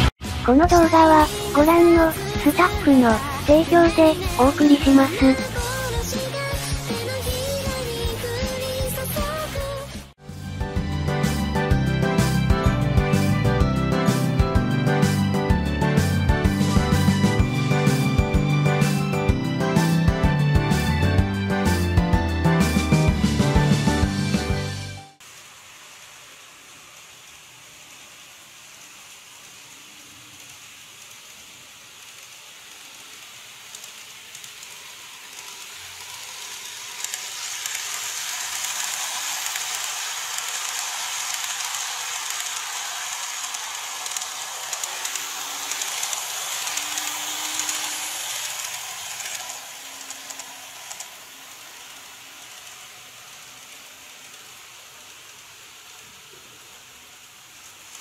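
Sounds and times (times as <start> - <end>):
model train running on track: 0.0 - 24.8, 25.4 - 58.0.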